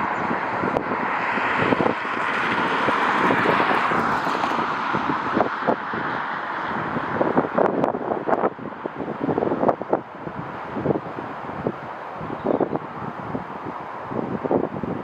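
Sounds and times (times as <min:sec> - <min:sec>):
jet engines rushing: 0:00.0 - 0:15.0
wind buffeting microphone: 0:00.0 - 0:15.0.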